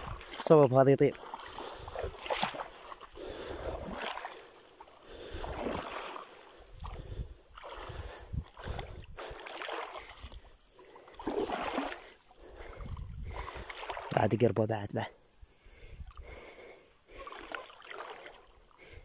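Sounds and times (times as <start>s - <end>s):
water sloshing around a boat: 0.0s - 19.0s.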